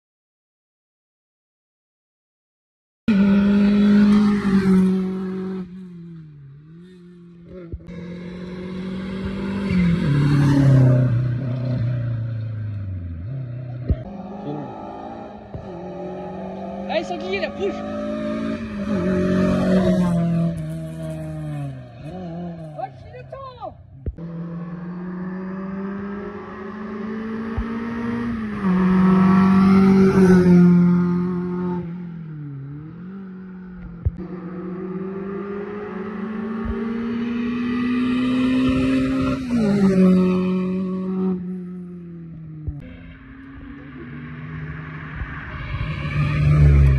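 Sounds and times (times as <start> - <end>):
rally car engine passing by: 3.1 - 46.9.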